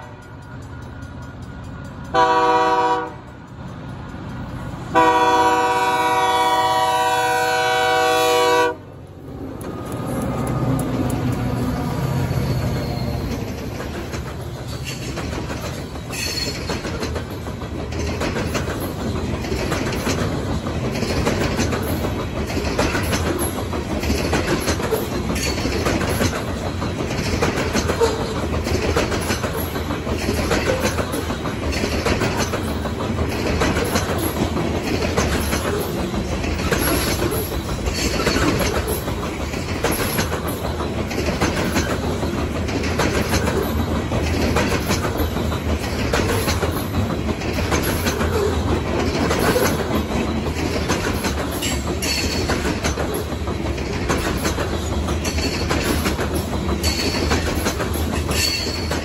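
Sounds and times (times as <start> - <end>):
train rumble: 0.0 - 59.0
wheels clacking over rail joints: 9.4 - 59.0.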